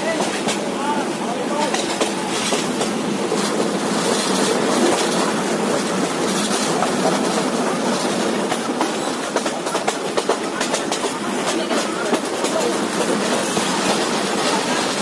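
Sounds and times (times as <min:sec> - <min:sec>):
train wheels rumbling on track: 0:00.0 - 0:15.0
rail-joint clicks: 0:00.1 - 0:00.7, 0:01.6 - 0:15.0.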